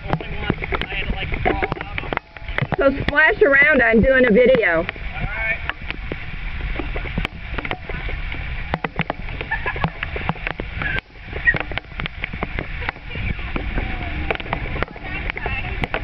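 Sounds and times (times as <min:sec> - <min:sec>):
floodwater flowing: 0:00.0 - 0:16.0
people splashing in water: 0:00.0 - 0:16.0.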